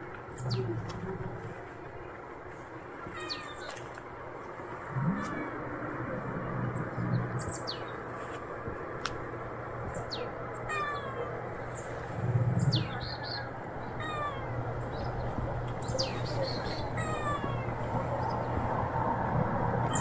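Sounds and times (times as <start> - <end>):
small birds calling: 0.0 - 8.5, 9.2 - 18.8, 19.8 - 20.0.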